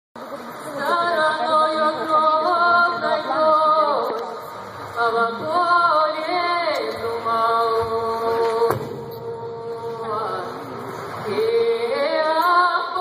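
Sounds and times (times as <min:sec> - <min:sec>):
women singing held notes: 0:00.3 - 0:13.0.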